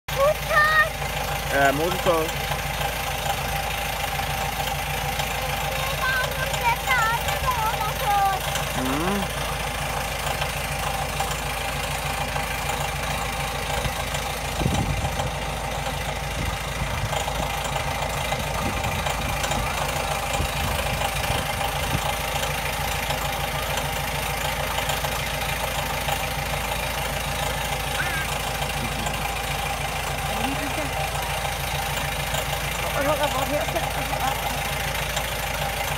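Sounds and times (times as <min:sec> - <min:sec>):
diesel locomotive engine idling: 0:00.0 - 0:35.9.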